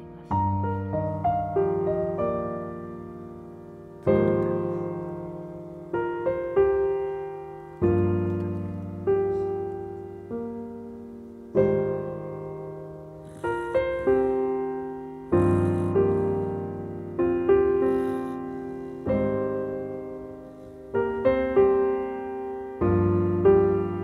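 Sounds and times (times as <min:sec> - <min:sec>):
slow solo piano piece: 0:00.0 - 0:24.0.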